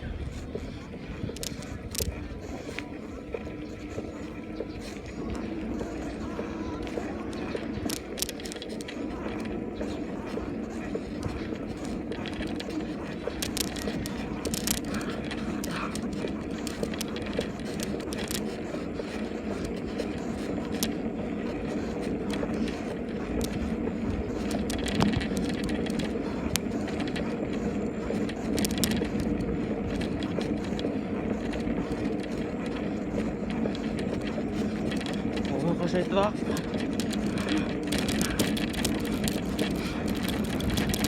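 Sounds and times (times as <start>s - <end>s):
bicycle clicks and rattles: 0.0s - 41.0s
bicycle tyre and wind noise: 0.0s - 41.0s.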